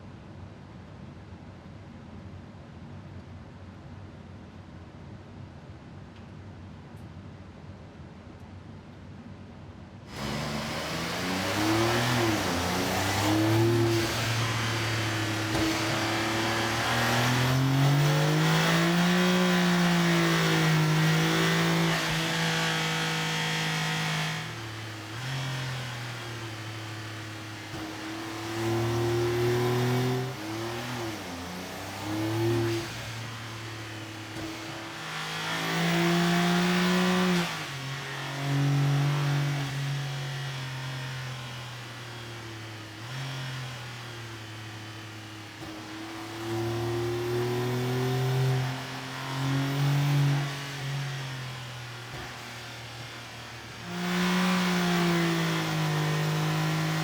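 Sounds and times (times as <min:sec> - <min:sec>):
car engine revving: 0:10.1 - 0:57.0.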